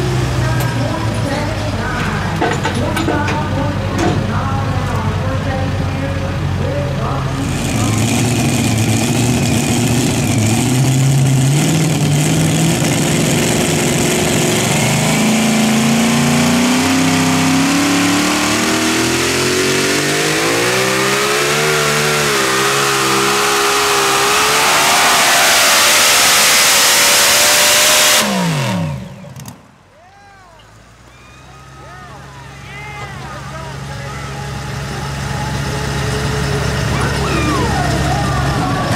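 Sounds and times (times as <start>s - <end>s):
pulling vehicle engine at full power: 0.0s - 38.9s.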